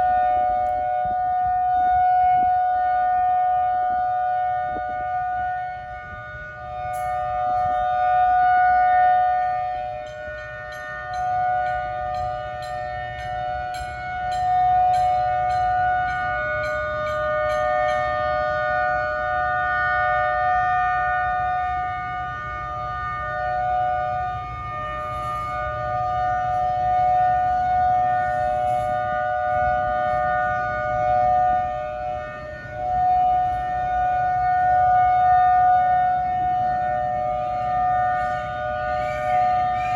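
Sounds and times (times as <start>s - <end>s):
tornado warning siren two-note tone: 0.0s - 39.9s.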